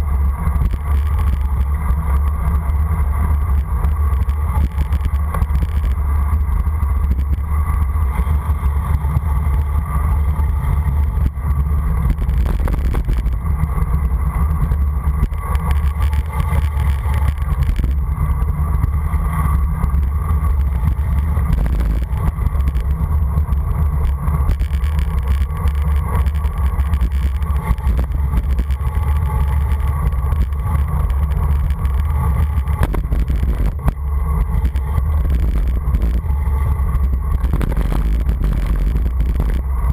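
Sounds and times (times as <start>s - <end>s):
wind buffeting microphone: 3.0s - 39.9s.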